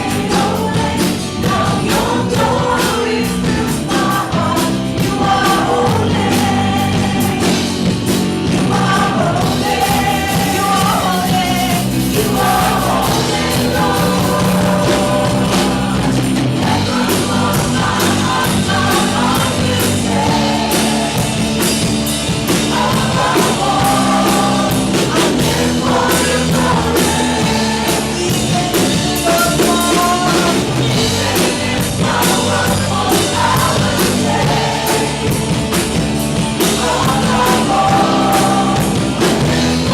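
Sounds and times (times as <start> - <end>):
drums: 0.0 - 39.9
voices singing: 0.0 - 39.9
worship band playing: 0.0 - 39.9.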